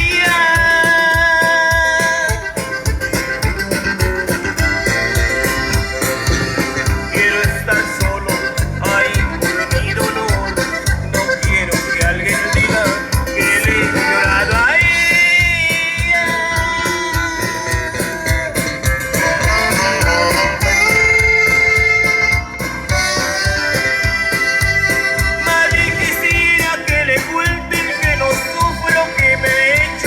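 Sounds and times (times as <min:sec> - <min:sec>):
drums keeping a steady beat: 0:00.0 - 0:30.0
rock band playing: 0:00.0 - 0:30.0.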